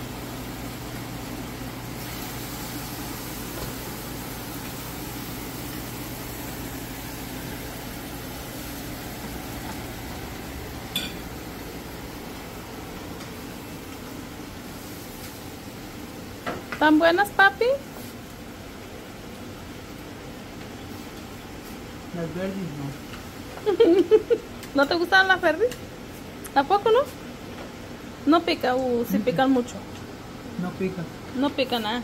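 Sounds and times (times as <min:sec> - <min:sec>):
fan hum and hiss: 0:00.0 - 0:32.0.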